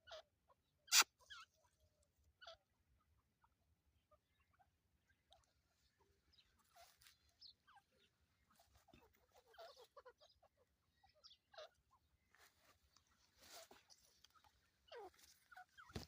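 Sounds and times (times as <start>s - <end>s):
partridges chirping and clucking: 0.0s - 16.0s.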